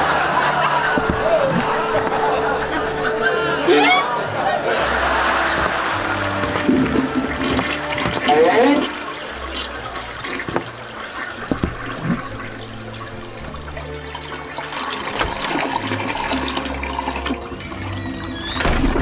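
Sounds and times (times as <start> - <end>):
water rushing and gurgling: 0.0 - 19.0.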